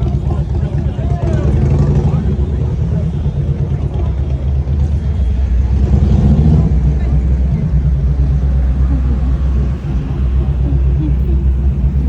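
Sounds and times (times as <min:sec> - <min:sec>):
vehicle engine droning: 0:00.0 - 0:12.0
voices: 0:00.0 - 0:12.0.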